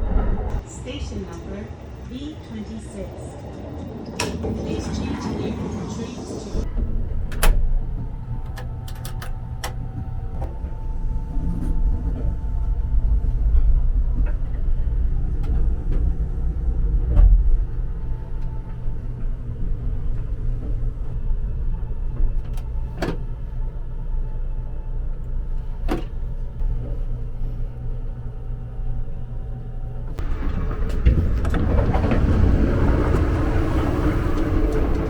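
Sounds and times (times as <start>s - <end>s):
train rumble inside carriage: 0.0s - 35.0s.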